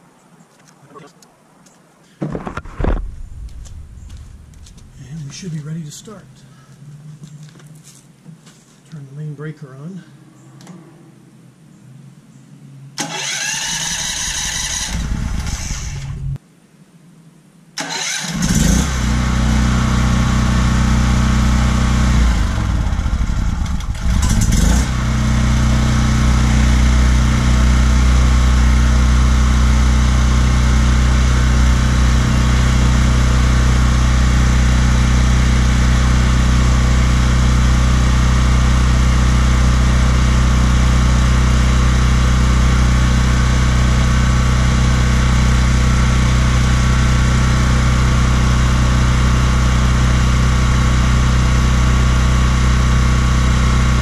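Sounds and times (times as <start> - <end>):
portable generator running: 2.4 - 6.4, 13.0 - 16.4, 18.0 - 54.0.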